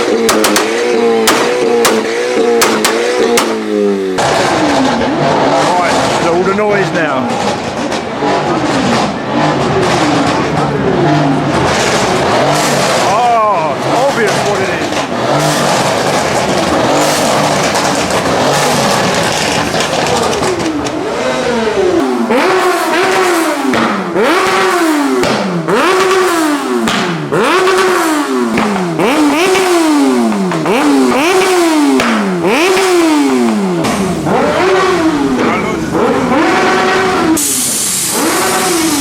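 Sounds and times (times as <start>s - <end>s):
car engine revving: 0.0s - 39.0s
car engines: 0.0s - 39.0s.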